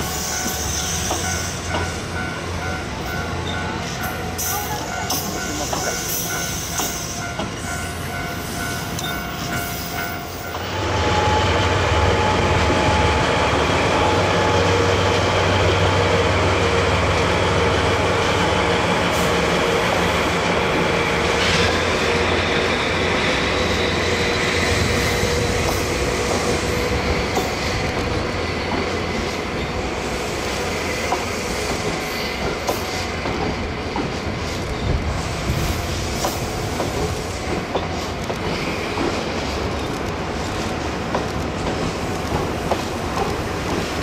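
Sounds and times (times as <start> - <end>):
diesel train running on tracks: 0.0 - 44.0.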